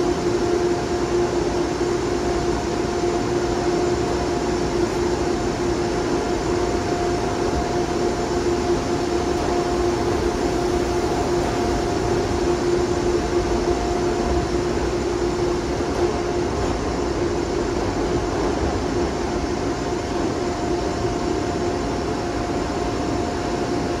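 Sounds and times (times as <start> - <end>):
constant hum: 0.0 - 24.0.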